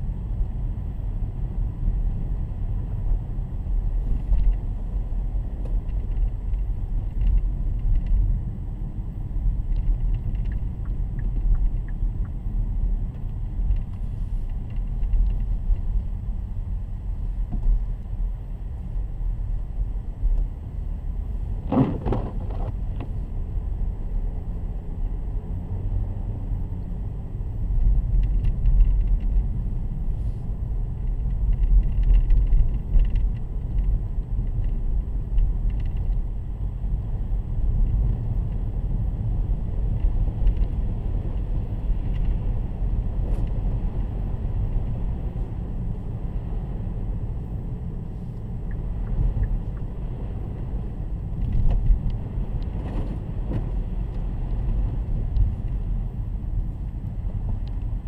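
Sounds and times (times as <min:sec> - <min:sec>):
car driving: 0:00.0 - 0:58.0.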